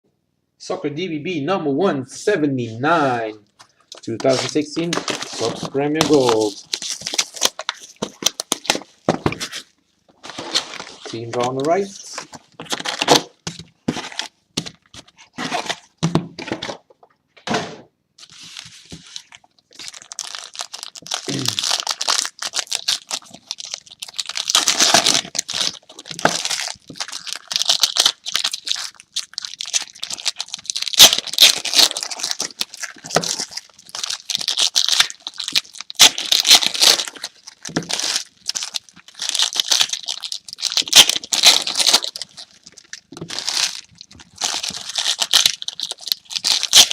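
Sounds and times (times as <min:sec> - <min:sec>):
plastic wrapping tearing and crinkling: 0:03.9 - 0:15.9, 0:18.2 - 0:46.9.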